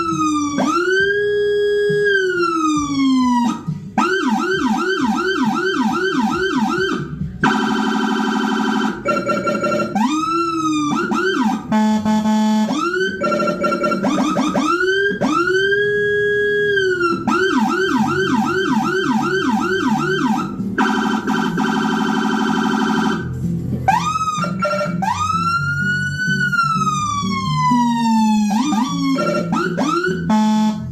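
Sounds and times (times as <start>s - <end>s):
electronic vehicle siren: 0.0s - 30.9s.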